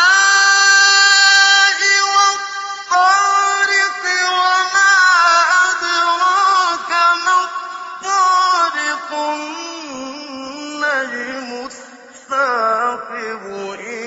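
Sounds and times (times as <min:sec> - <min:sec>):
high voice chanting: 0:00.0 - 0:14.0.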